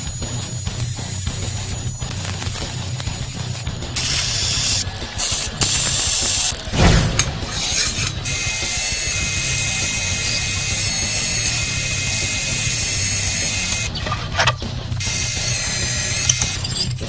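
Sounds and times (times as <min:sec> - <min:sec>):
drill press cutting steel: 0:00.0 - 0:17.0.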